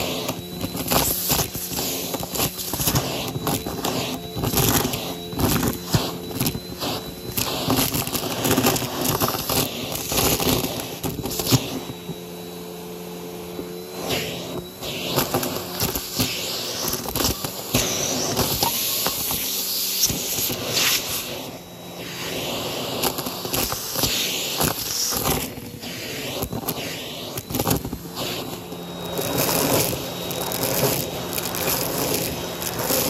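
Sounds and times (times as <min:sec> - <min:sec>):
vacuum cleaner motor hum: 0:00.0 - 0:33.0.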